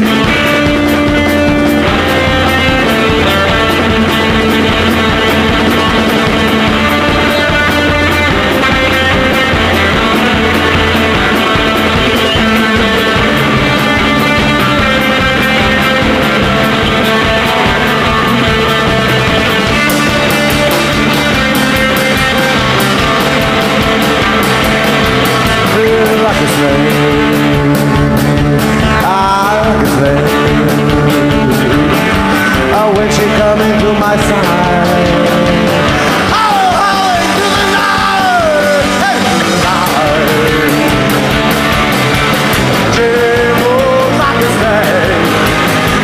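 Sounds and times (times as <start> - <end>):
bass guitar: 0.0 - 46.0
drums and cymbals: 0.0 - 46.0
electric guitar: 0.0 - 46.0.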